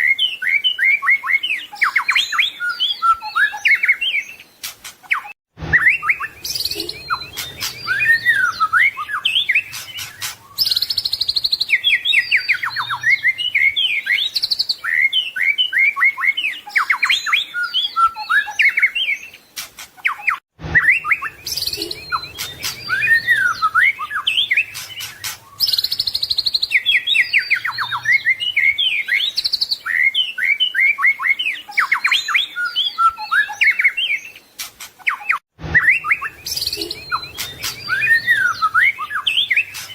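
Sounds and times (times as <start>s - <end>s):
bird singing whistles and trills: 0.0s - 19.4s, 20.0s - 39.9s.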